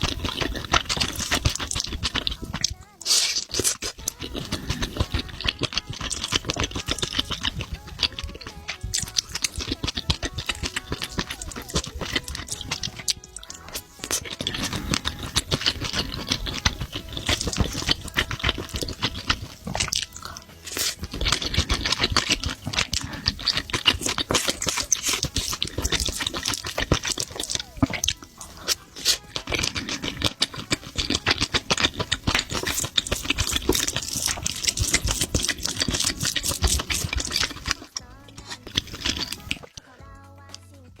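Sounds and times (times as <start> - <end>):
wet mouth smacks and clicks: 0.0 - 39.8
chewing: 0.0 - 40.8.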